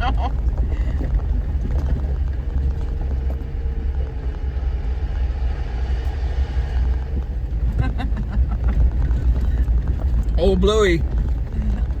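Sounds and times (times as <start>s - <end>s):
truck engine rumbling under load: 0.0s - 12.0s.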